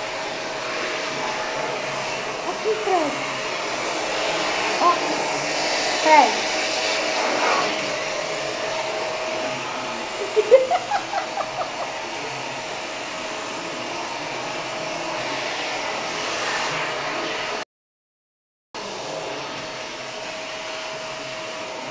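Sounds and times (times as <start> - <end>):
vacuum cleaner running: 0.0 - 17.6, 18.8 - 21.9.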